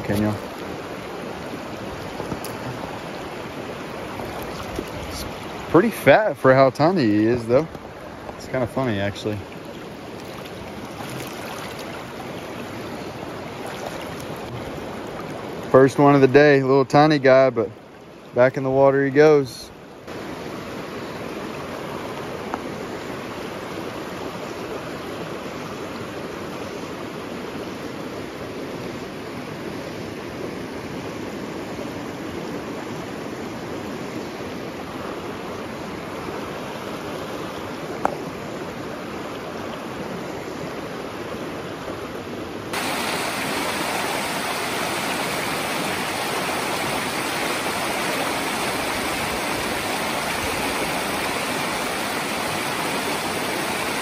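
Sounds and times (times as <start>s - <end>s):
water rushing over rocks: 0.0s - 19.4s, 20.0s - 54.0s.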